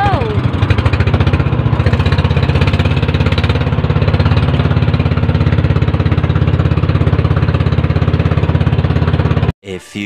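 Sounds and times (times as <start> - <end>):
boat engine chugging: 0.0 - 9.5.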